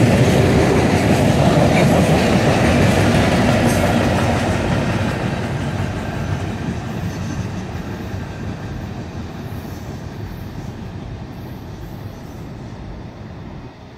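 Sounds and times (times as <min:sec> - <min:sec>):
train wheels rumbling on track: 0:00.0 - 0:13.9.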